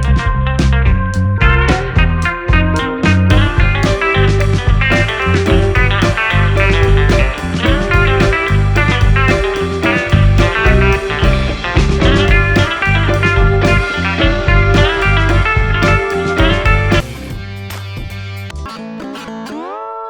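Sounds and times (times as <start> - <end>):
guitar-led rock music: 0.0 - 20.0.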